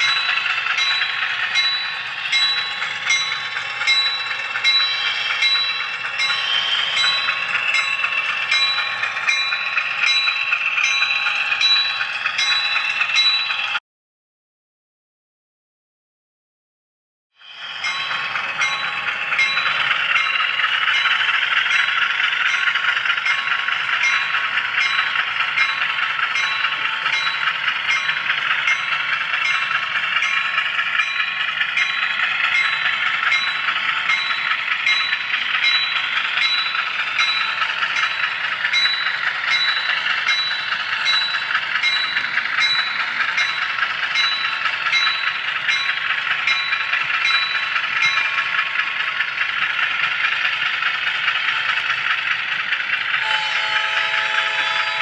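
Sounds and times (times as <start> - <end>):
model train car rattling whir: 0.0 - 13.8, 17.4 - 55.0.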